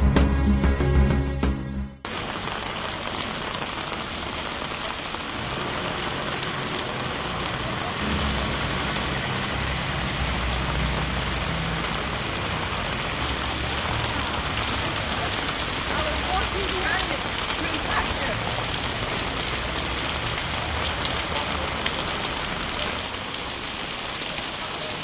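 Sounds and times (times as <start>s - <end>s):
rain on wet pavement: 2.1s - 25.0s.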